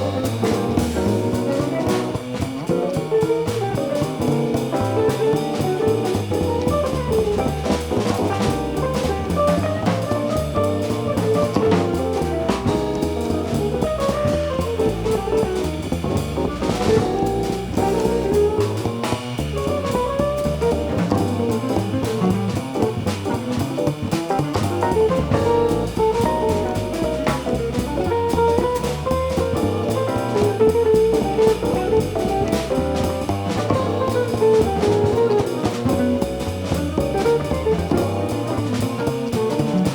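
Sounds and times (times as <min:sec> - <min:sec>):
bass line: 0:00.0 - 0:39.9
drum kit: 0:00.0 - 0:39.9
jazz band playing: 0:00.0 - 0:39.9.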